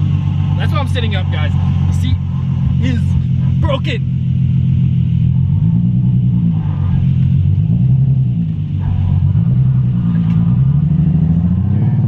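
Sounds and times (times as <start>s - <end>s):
car engine low rumble: 0.0s - 12.0s
road noise: 0.0s - 12.0s.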